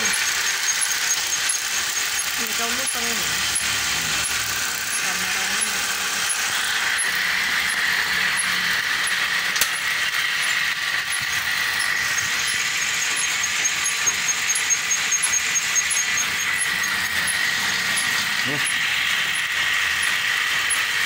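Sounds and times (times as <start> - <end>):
winding machine whine: 0.0 - 21.0.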